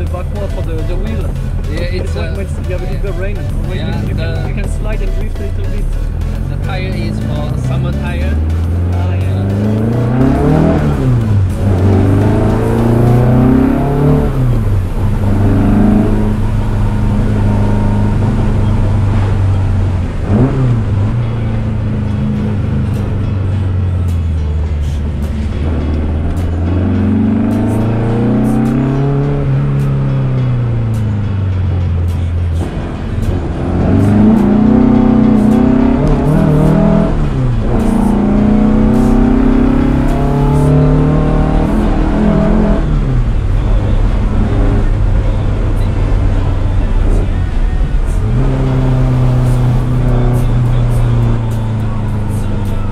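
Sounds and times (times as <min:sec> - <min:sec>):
car engine from inside cabin: 0:06.0 - 0:52.9.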